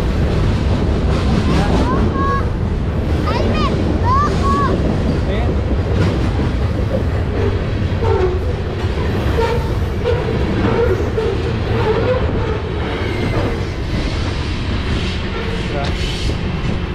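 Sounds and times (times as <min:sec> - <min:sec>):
steel wheels rumbling on rails: 0:00.0 - 0:16.9.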